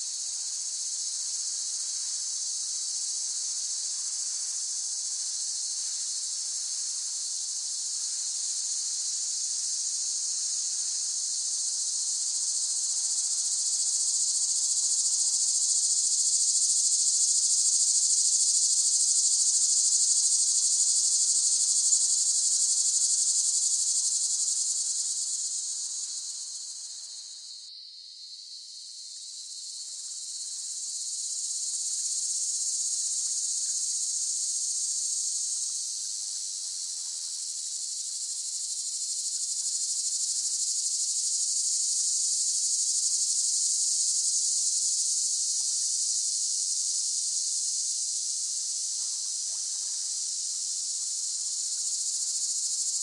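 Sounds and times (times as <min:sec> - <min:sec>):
cicadas buzzing: 0:02.9 - 0:28.4, 0:29.0 - 0:53.0.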